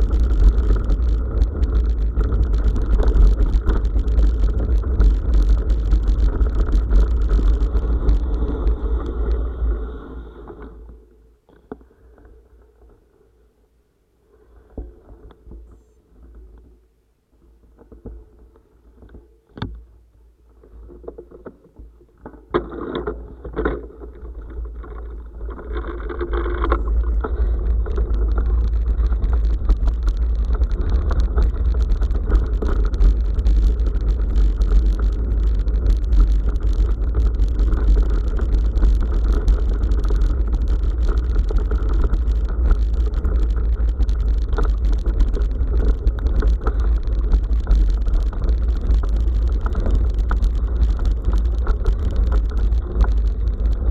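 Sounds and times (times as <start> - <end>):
bicycle tyres rattling on rough track: 0.0 - 13.4, 17.4 - 53.9.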